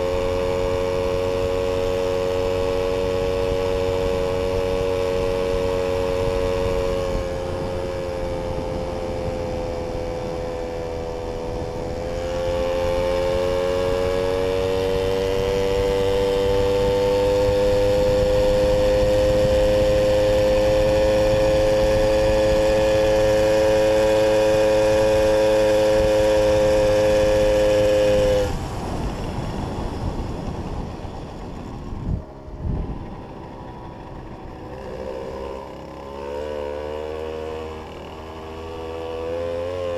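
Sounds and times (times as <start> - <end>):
two-stroke moped engine: 0.0 - 39.9.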